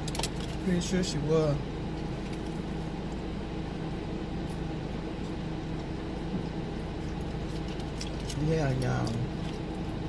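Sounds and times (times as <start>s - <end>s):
car cabin hum and air rush: 0.0s - 10.0s.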